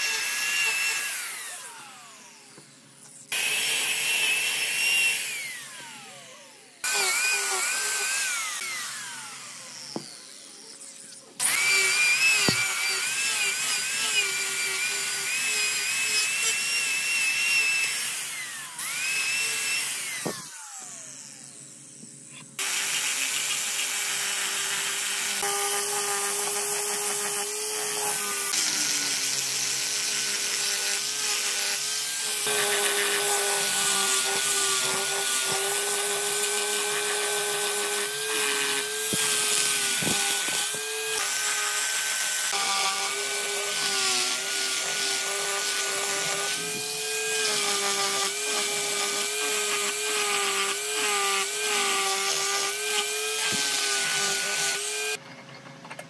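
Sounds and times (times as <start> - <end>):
die grinder whining on wood: 0.0 - 55.2.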